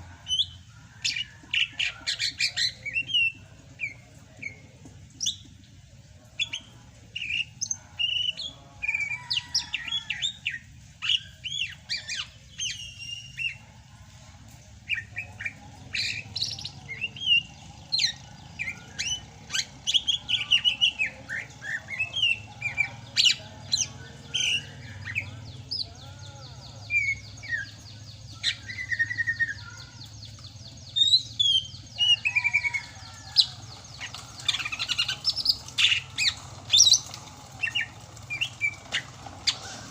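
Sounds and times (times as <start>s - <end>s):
bird singing chirps and trills: 6.3s - 13.7s, 14.8s - 39.9s.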